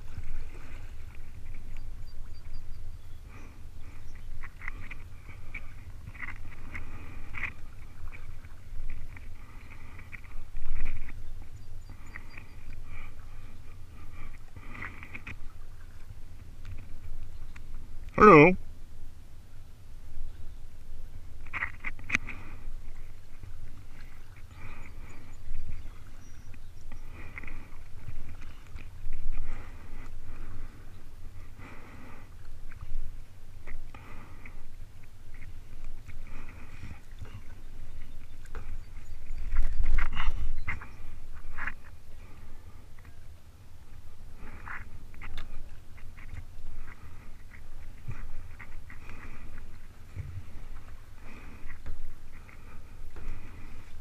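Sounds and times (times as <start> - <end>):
wind noise on microphone: 0.0 - 43.0, 43.9 - 54.0.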